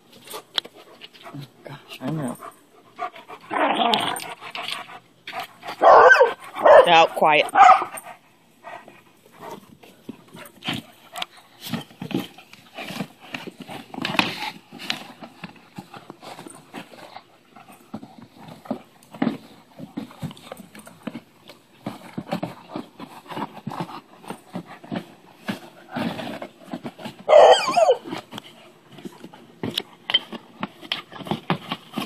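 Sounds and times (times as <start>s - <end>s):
dog chewing and tearing cardboard: 0.0s - 32.0s.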